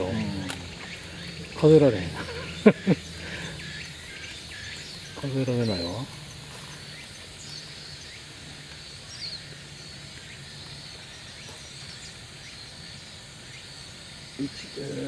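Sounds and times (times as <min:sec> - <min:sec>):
faint outdoor background hum: 0:00.0 - 0:15.0
thin high bird chirps: 0:00.0 - 0:15.0.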